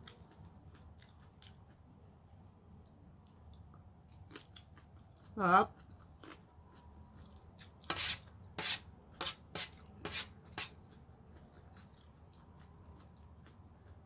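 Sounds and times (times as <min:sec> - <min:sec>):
crunchy chewing of salad: 0:00.0 - 0:14.0.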